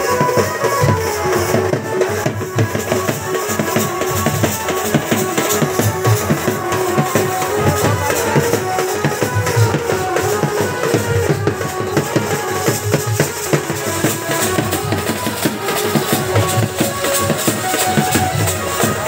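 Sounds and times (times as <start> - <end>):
double-headed drum beaten fast: 0.0 - 19.0
steady held melody line: 0.0 - 19.0.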